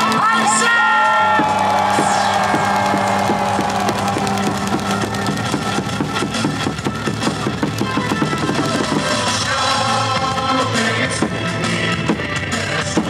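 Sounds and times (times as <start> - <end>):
cheer music over loudspeakers: 0.0 - 13.0.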